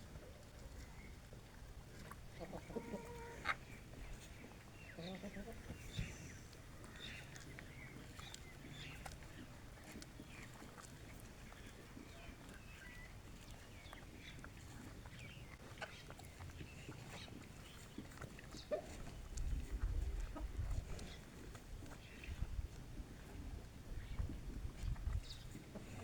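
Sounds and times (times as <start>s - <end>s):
chickens calling: 0.1s - 22.5s.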